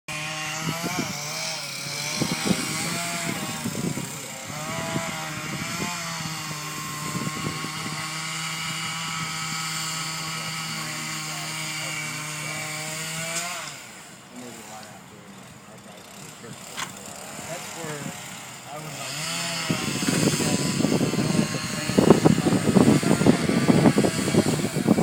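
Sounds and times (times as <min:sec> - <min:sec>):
chainsaw engine running: 0:00.1 - 0:25.0.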